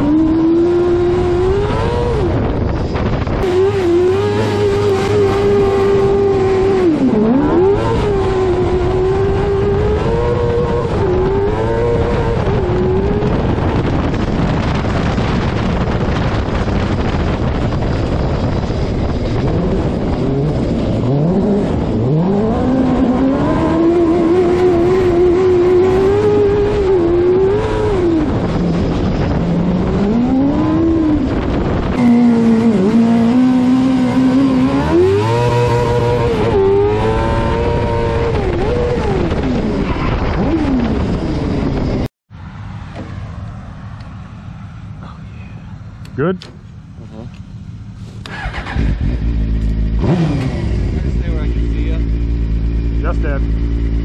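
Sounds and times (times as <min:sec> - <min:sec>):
motorcycle engine revving high: 0:00.0 - 0:42.1, 0:46.2 - 0:54.0
wind rushing: 0:00.0 - 0:46.0.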